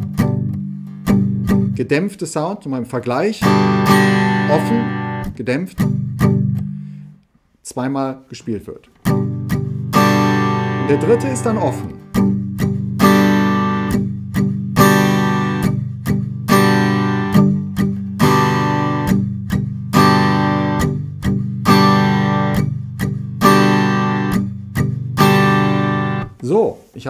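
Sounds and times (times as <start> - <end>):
acoustic guitar strumming: 0.0 - 1.8, 3.4 - 7.2, 9.0 - 26.4.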